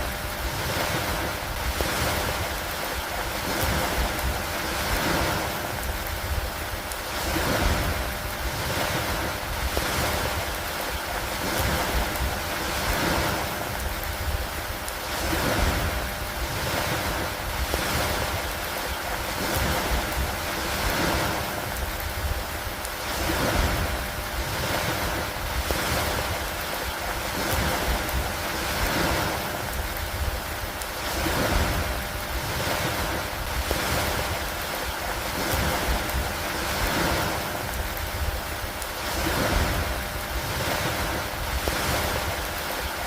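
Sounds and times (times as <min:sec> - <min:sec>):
rain on a wooden dock: 0:00.0 - 0:43.0
wind: 0:00.0 - 0:43.0.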